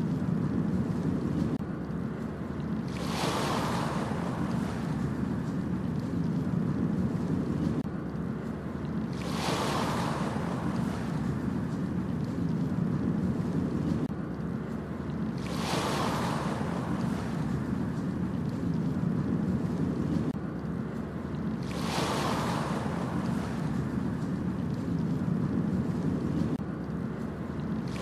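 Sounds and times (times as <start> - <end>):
low surf rumble: 0.0 - 28.0
ocean waves breaking: 0.0 - 28.0.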